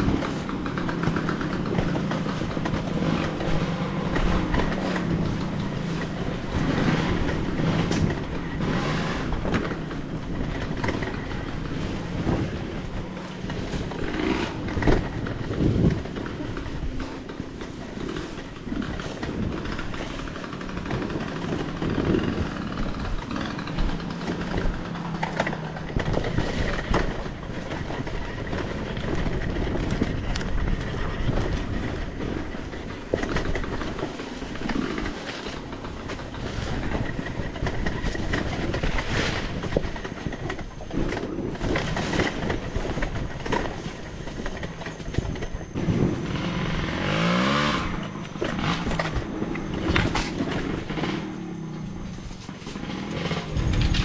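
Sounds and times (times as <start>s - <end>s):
dirt bike engine rumbling: 0.0s - 54.0s.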